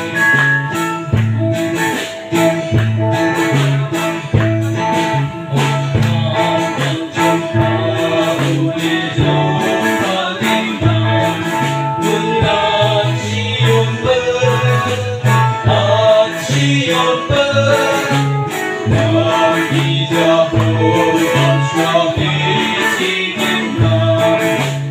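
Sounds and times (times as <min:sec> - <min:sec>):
acoustic and electric guitars: 0:00.0 - 0:24.9
bass line: 0:00.0 - 0:24.9
drum kit: 0:00.0 - 0:24.9
voices singing: 0:00.0 - 0:24.9.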